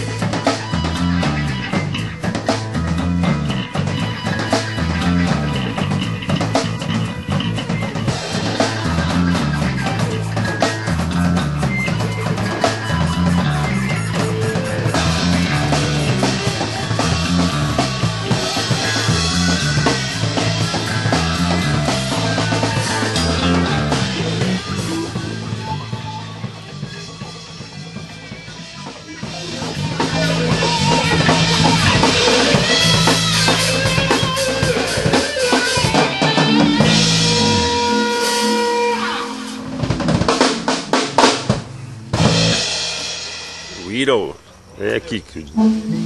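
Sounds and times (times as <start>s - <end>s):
bass line: 0.0s - 46.0s
drum kit: 0.0s - 46.0s
guitar: 0.0s - 46.0s.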